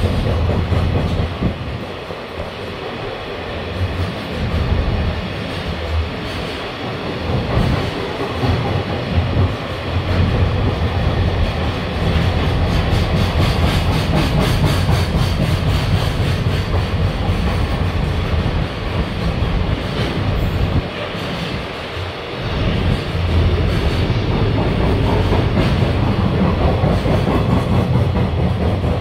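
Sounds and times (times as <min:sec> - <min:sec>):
clickety-clack over rail joints: 0:00.0 - 0:29.0
train wheels rumbling on rail: 0:00.0 - 0:29.0.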